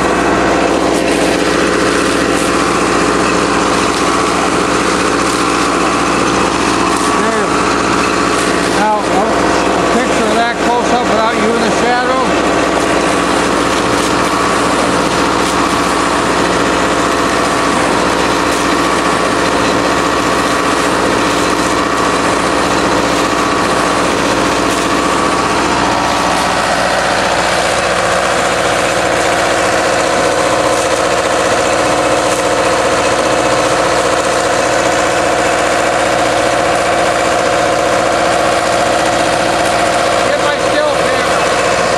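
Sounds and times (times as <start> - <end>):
hose sucking water and air: 0.0 - 41.9
pump running: 0.0 - 41.9.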